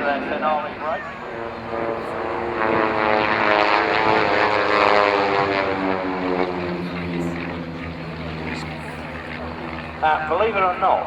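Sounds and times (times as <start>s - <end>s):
propeller aircraft flying past: 0.0s - 11.0s.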